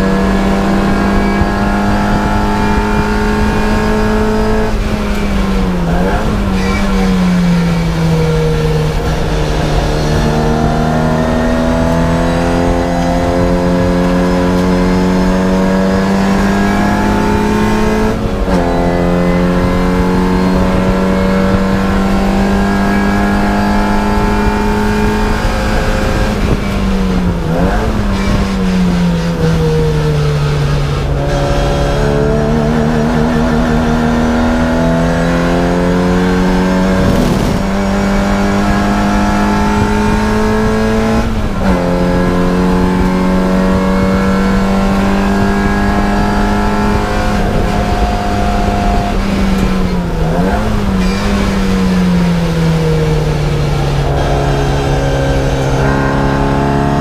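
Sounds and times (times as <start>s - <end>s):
racing car engine at full load: 0.0s - 57.0s.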